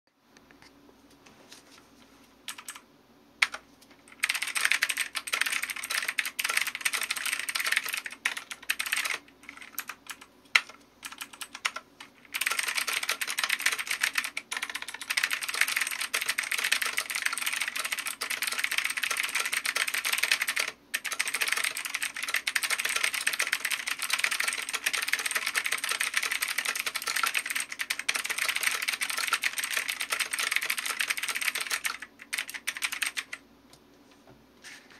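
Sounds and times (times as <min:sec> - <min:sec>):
mechanical keyboard typing: 0:02.5 - 0:02.8, 0:03.4 - 0:33.4.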